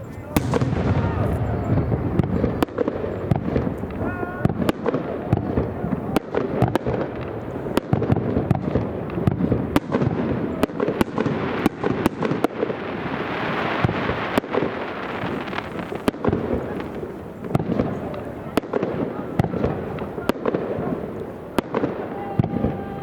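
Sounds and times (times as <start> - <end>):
fireworks hissing: 0.0 - 7.9, 10.3 - 23.0
fireworks bangs: 0.0 - 23.0
fireworks rumble: 0.0 - 23.0.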